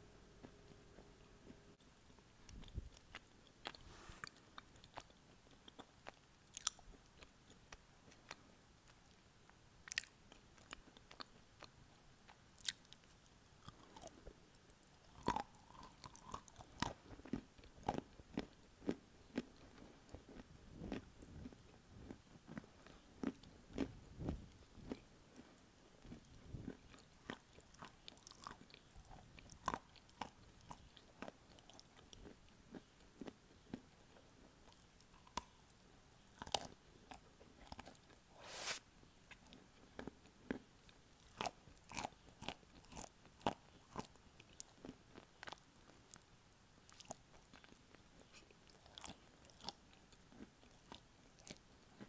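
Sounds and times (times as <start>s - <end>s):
soft chewing: 0.0s - 52.0s.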